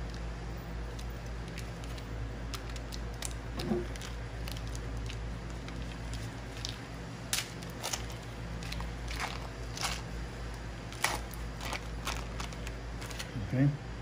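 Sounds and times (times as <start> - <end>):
foil wrapper crinkling: 0.0 - 13.4
steady low hum: 0.0 - 14.0.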